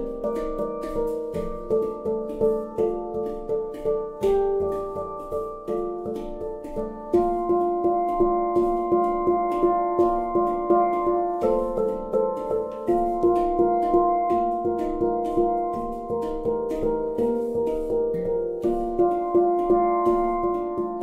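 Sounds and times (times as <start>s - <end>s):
handpan melody: 0.0s - 21.0s.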